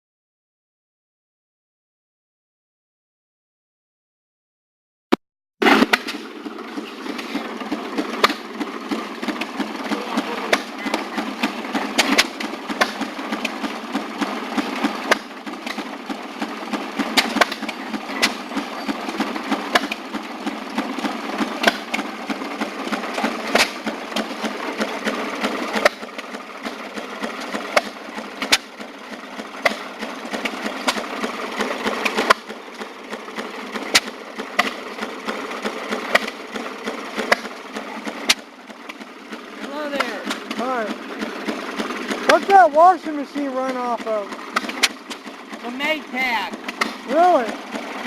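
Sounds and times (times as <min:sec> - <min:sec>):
engine chatter and clicks: 0:05.6 - 0:48.0
two-stroke engine running: 0:05.6 - 0:48.0.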